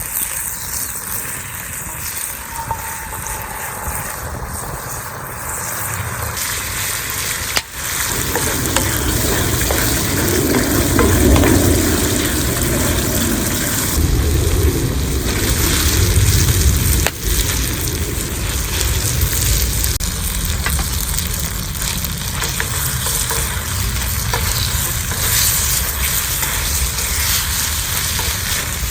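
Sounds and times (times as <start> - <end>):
food sizzling in skillet: 0.0 - 28.9.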